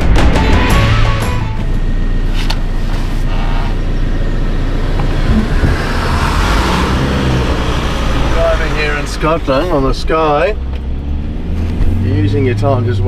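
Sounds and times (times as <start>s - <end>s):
van engine and tyre rumble: 0.0s - 13.0s.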